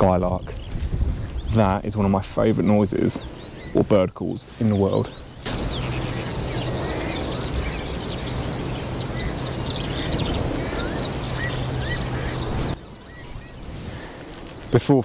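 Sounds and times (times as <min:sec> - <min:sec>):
wind on microphone: 0:00.0 - 0:04.1, 0:05.0 - 0:14.7
skylark singing: 0:00.0 - 0:15.0.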